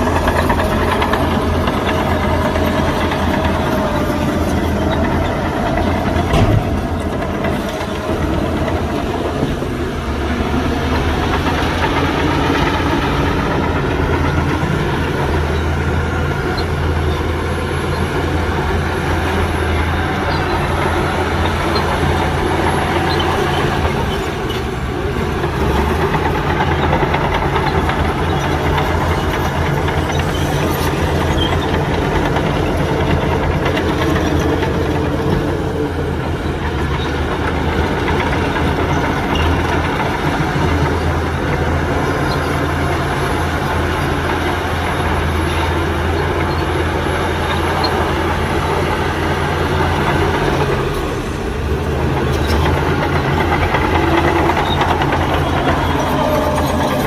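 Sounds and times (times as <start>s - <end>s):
heavy diesel machinery drone: 0.0s - 57.0s.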